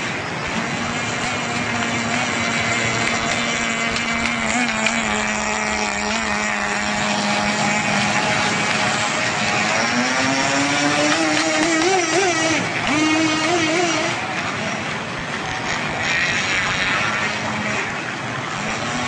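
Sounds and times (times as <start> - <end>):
model boat engines droning: 0.0 - 19.0.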